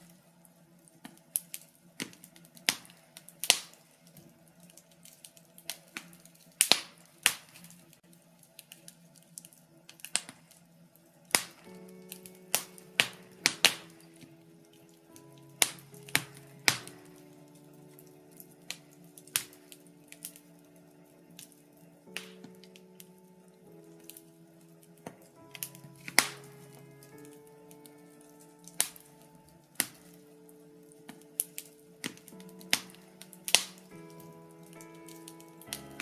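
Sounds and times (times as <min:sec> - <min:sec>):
logs crackling in fireplace: 0:00.0 - 0:36.0.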